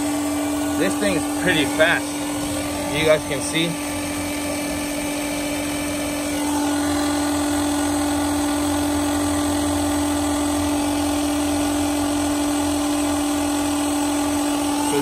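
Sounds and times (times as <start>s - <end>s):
electric fuel pump whining: 0.0s - 15.0s.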